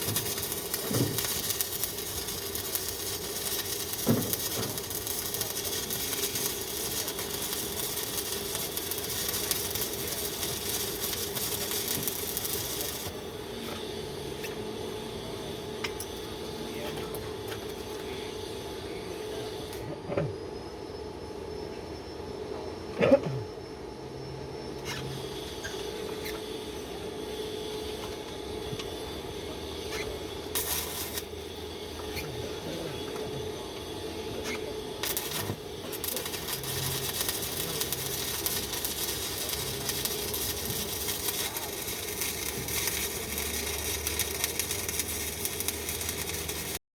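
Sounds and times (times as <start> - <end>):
welding arc crackling hiss: 0.0 - 18.3, 24.8 - 46.8.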